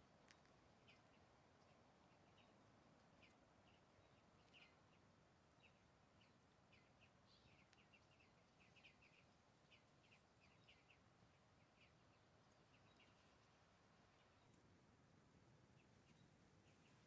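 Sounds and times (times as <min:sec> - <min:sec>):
faint bird chirps: 0:00.8 - 0:14.6, 0:15.7 - 0:17.0.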